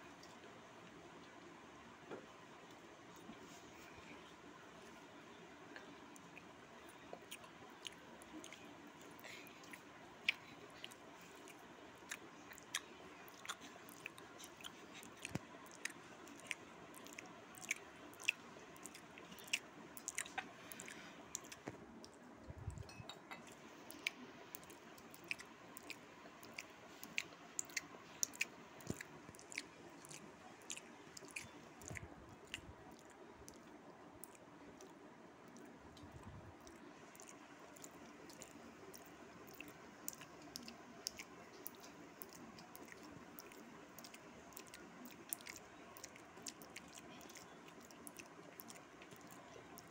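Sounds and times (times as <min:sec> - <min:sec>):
quiet chewing: 0:00.0 - 0:49.9
mouth clicks and smacks: 0:05.7 - 0:49.9.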